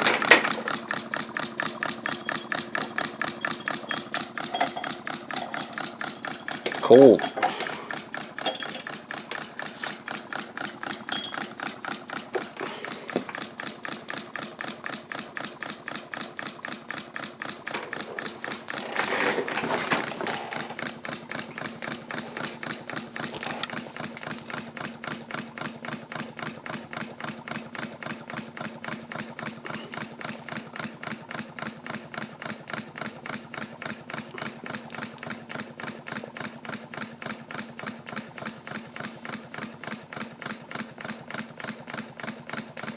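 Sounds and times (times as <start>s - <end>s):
model steam engine chuffing: 0.0s - 42.9s.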